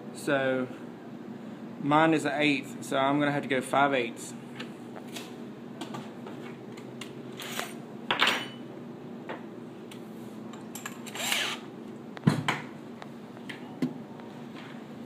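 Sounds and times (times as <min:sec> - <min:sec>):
low shop hum: 0:00.0 - 0:15.0.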